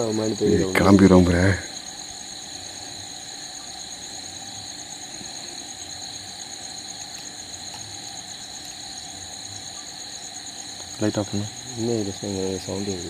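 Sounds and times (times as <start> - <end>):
night insects chirping: 0.0 - 13.0.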